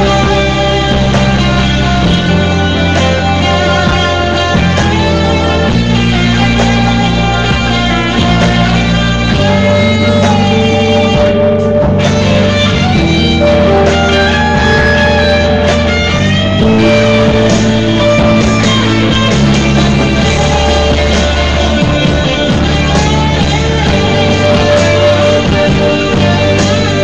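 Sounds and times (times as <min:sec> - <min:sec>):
rock guitar chords: 0:00.0 - 0:27.0.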